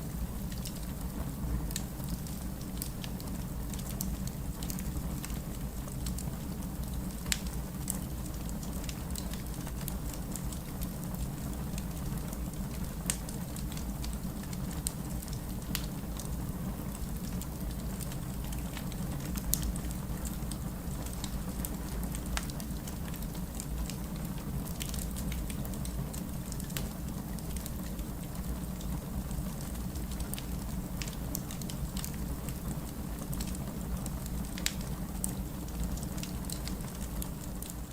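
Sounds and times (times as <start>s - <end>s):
fireplace crackling: 0.0s - 37.9s
steady rain: 0.0s - 37.9s.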